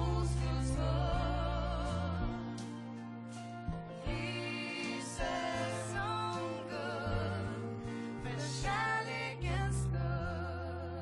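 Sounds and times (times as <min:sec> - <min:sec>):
women singing with vibrato: 0:00.0 - 0:02.7, 0:04.0 - 0:11.0.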